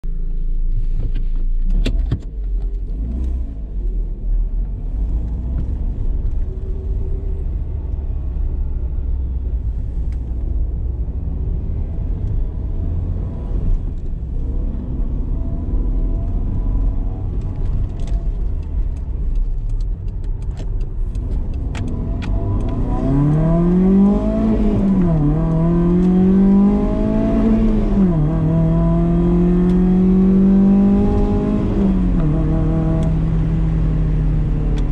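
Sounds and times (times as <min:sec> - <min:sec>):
car engine running: 0:00.8 - 0:34.9.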